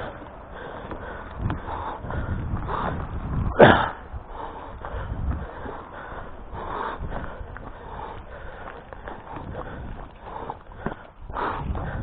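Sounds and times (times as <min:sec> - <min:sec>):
rumbling noise: 0:00.0 - 0:12.0.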